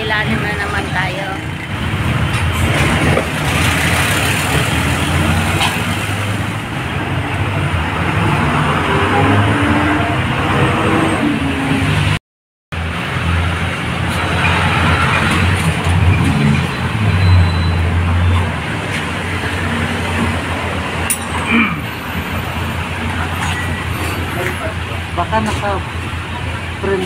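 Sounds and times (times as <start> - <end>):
road traffic with engine hum: 0.0 - 27.0.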